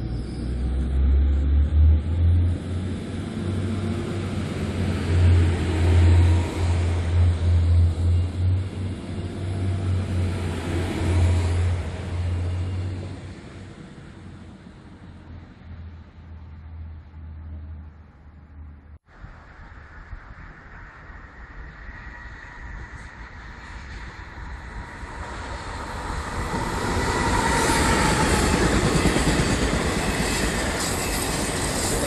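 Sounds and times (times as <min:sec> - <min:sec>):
diesel train engine under load: 0:00.0 - 0:18.4, 0:20.8 - 0:32.0.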